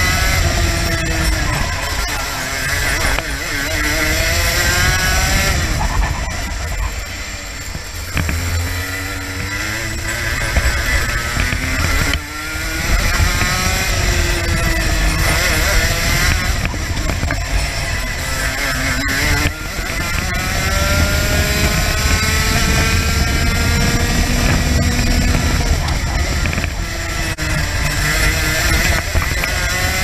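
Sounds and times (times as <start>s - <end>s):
racing kart engine revving: 0.0s - 30.0s.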